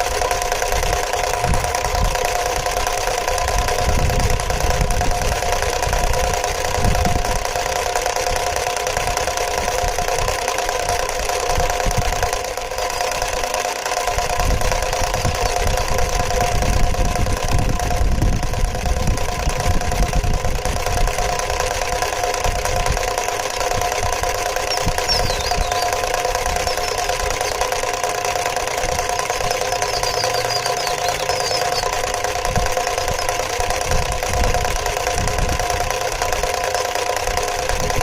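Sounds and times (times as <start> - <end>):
model engine whine: 0.0 - 38.0.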